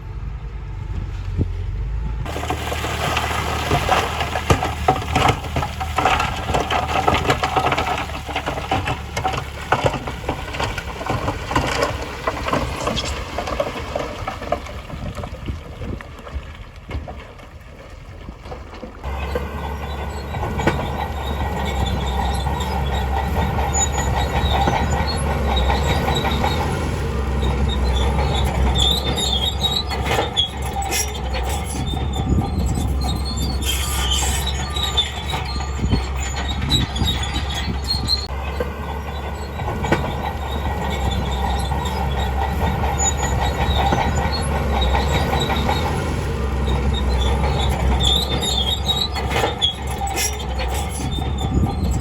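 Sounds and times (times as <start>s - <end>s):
diesel engine rumble: 0.0s - 52.0s
steel tracks squealing and clanking: 2.2s - 15.2s, 19.0s - 52.0s.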